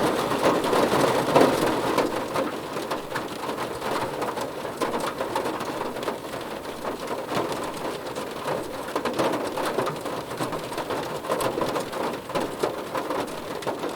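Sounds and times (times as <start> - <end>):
rain on a car roof: 0.0 - 13.9.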